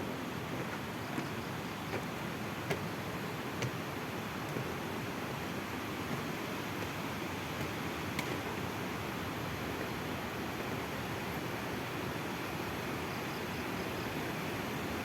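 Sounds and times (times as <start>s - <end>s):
open-air rushing ambience: 0.0s - 15.0s.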